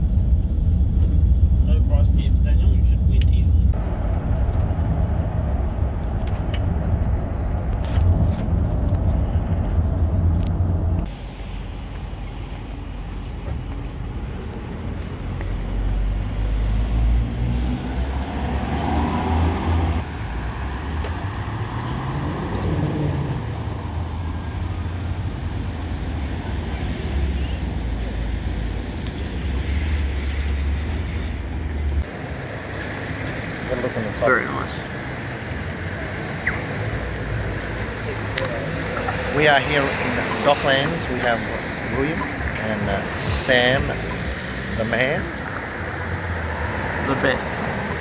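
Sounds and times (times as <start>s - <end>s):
vehicle road rumble: 0.0s - 48.0s
vehicles passing by: 0.0s - 48.0s.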